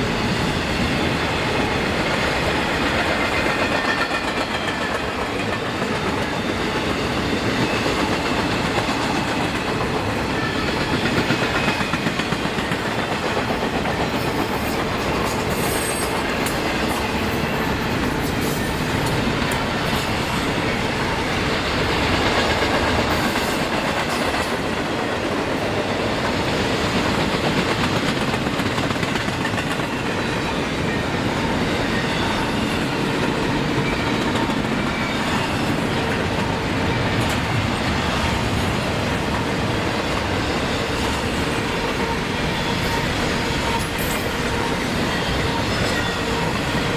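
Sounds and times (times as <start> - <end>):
train rumble: 0.0 - 46.9
train wheels clicking over rail joints: 0.0 - 46.9.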